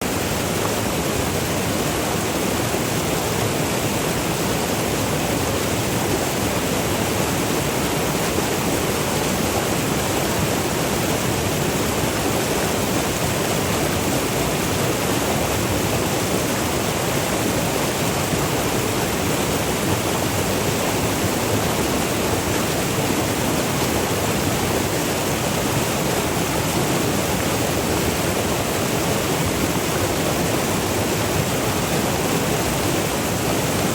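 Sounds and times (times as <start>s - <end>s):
river water rushing over waterfalls: 0.0s - 33.9s.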